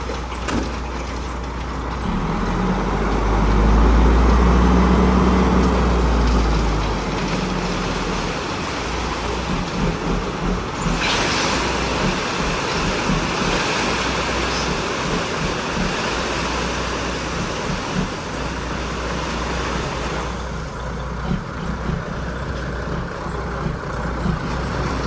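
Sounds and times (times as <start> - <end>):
truck engine rumble: 0.0 - 25.0
road and wind hiss: 2.0 - 25.0.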